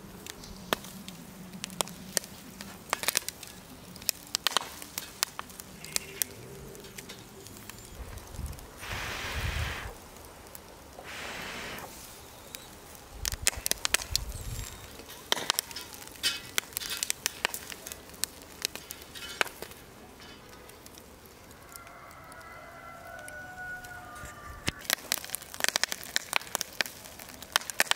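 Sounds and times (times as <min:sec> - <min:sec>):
charcoal fire crackling: 0:00.0 - 0:27.9
sharp pops and snaps: 0:00.2 - 0:19.8, 0:24.6 - 0:27.9.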